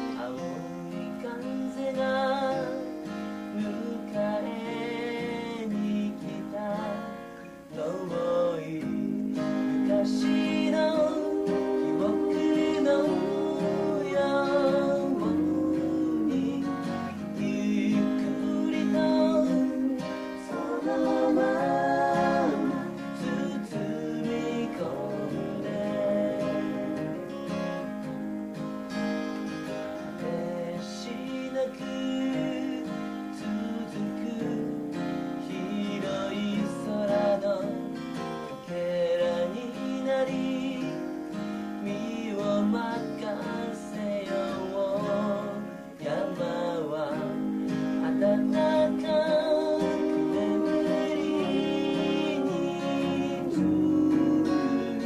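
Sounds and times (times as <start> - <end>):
person singing: 0.0 - 27.9, 29.9 - 55.0
acoustic guitar strummed and picked: 0.0 - 55.0
steady held tones: 0.0 - 55.0.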